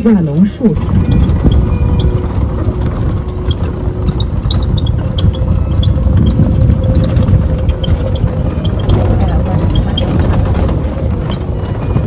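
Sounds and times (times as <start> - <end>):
vehicle motor rumbling: 0.0 - 12.0.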